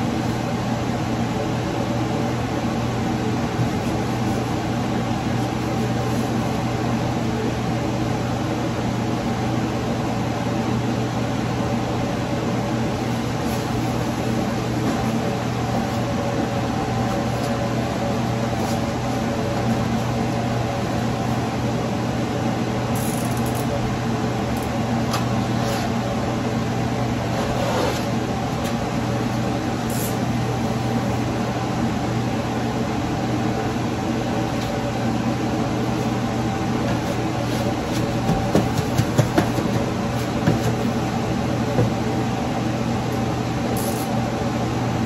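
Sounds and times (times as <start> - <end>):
steady mechanical hum: 0.0 - 45.0.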